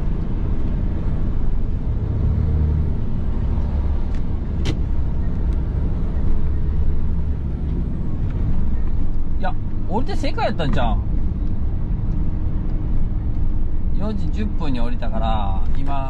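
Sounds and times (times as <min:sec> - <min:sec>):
truck engine and tyres rumbling: 0:00.0 - 0:16.0.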